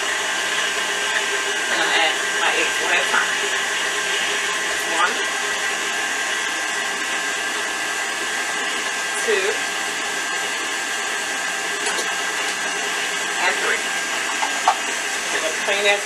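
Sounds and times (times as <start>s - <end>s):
stand mixer motor whirring: 0.0s - 16.0s.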